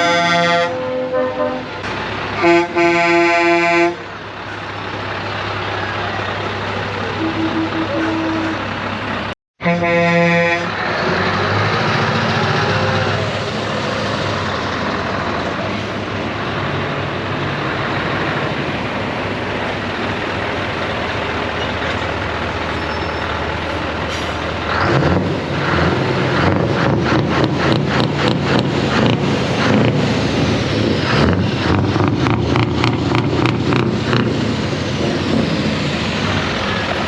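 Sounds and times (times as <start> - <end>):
deep pulsing truck engine: 0.0 - 37.0
lorry diesel engines running: 0.0 - 37.0.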